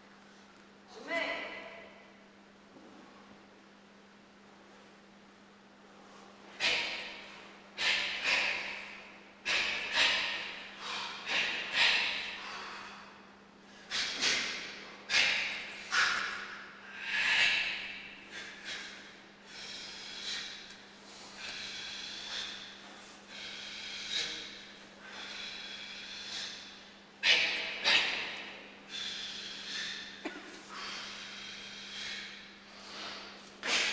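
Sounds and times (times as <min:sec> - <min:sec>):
forceful exhalations: 0:06.1 - 0:33.9.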